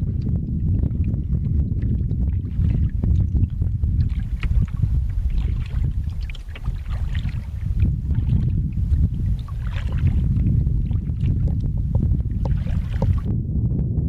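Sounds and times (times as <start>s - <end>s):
wind buffeting microphone: 0.0s - 14.0s
paddles splashing in water: 0.9s - 13.3s.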